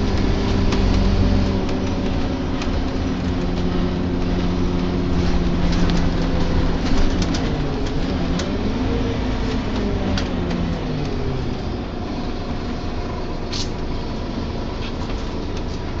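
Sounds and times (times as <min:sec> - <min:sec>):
bus engine running: 0:00.0 - 0:16.0
steady whine: 0:00.0 - 0:16.0.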